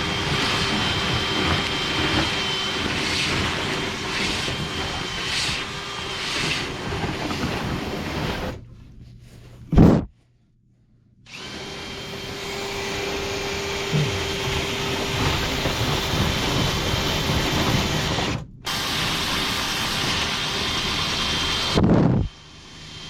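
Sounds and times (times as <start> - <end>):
power drill spinning brush in duct: 0.0 - 10.1, 11.3 - 23.0.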